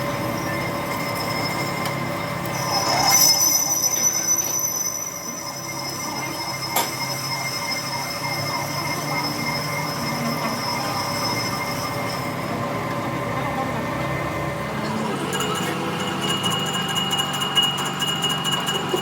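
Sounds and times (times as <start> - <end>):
machine tool cutting steel: 0.0 - 12.7, 14.9 - 19.0
high-pitched ringing squeal: 0.0 - 13.3, 14.8 - 19.0.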